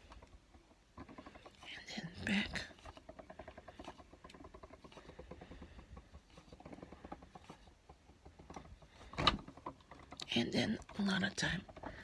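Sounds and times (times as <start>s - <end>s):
hand-cranked machine clicking: 0.0s - 12.0s.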